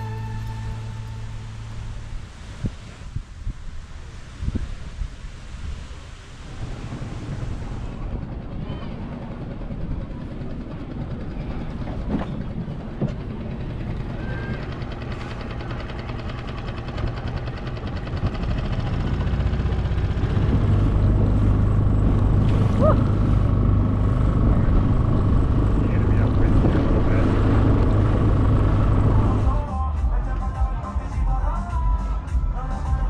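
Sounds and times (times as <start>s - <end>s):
motorboat engine running: 0.0s - 4.7s, 6.5s - 30.5s.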